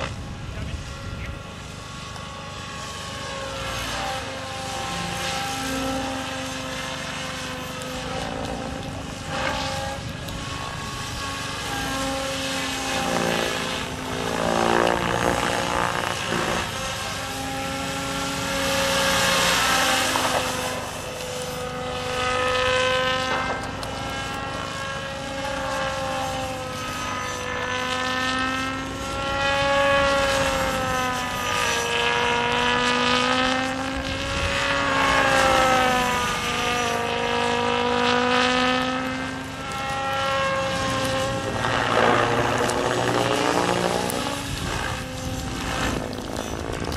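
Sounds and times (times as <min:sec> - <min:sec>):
model helicopter rotor whine: 0:00.0 - 0:46.9.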